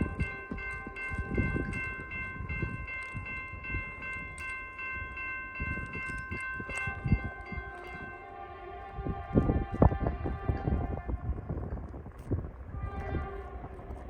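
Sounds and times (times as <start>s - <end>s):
crossing bell ringing: 0.0s - 12.1s
train rumbling on rails: 0.0s - 14.0s.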